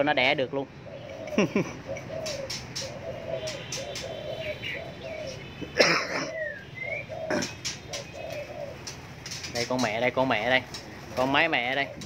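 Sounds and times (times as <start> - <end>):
doves cooing: 0.6 - 12.0.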